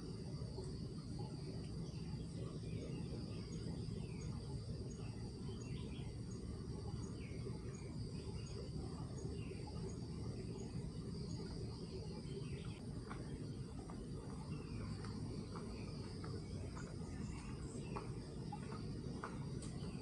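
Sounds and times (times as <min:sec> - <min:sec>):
insect chirping: 0:00.0 - 0:20.0
insects droning: 0:00.0 - 0:20.0
low background rumble: 0:00.0 - 0:20.0.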